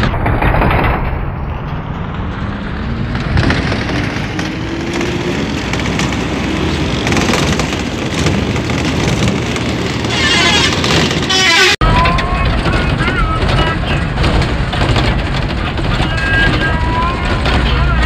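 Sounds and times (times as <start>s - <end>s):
road noise: 0.0s - 18.0s
vehicle engine: 0.0s - 18.0s.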